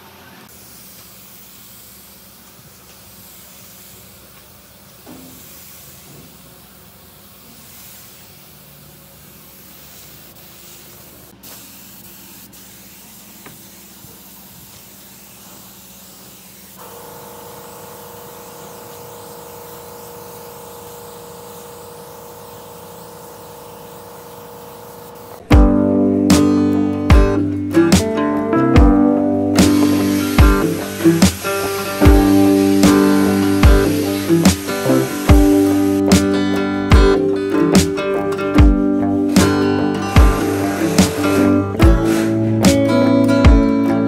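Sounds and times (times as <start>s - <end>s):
spray gun hissing: 0.4s - 25.5s, 29.0s - 38.2s, 38.8s - 43.2s.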